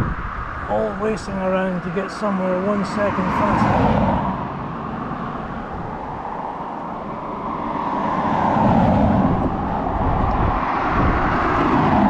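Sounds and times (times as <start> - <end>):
wind on microphone: 0.0 - 12.0
car passing by: 0.1 - 12.0.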